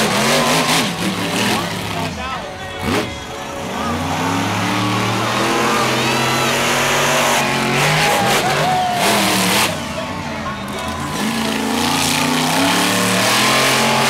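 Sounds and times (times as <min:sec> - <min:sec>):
arena noise: 0:00.0 - 0:14.0
truck engines revving hard: 0:00.0 - 0:14.0.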